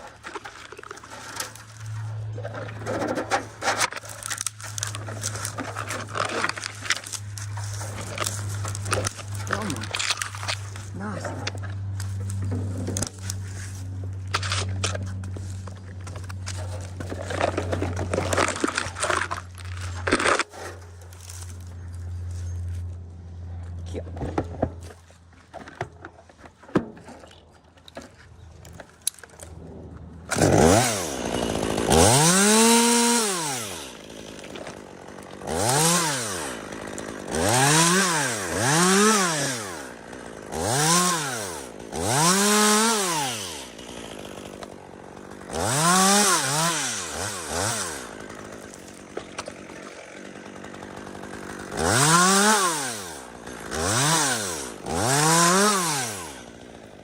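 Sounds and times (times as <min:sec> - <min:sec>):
chainsaw revving and idling: 0:00.0 - 0:23.6, 0:29.1 - 0:57.0.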